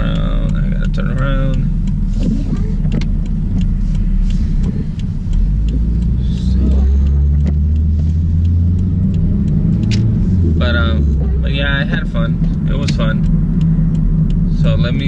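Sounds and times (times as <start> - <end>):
car engine and road noise: 0.0 - 15.0
faint regular ticks: 0.0 - 15.0.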